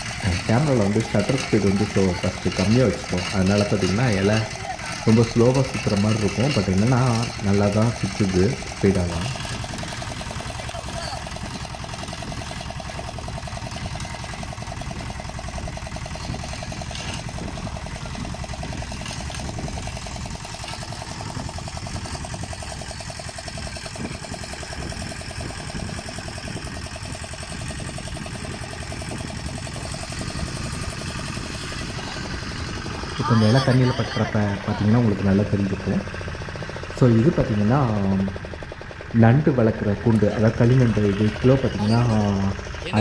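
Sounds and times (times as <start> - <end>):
outboard motor running: 0.0 - 43.0.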